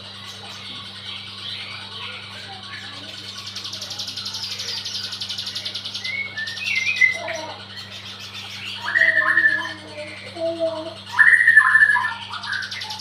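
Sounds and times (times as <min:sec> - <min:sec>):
bird trilling and chirping: 0:00.0 - 0:13.0
steady low hum: 0:00.0 - 0:13.0.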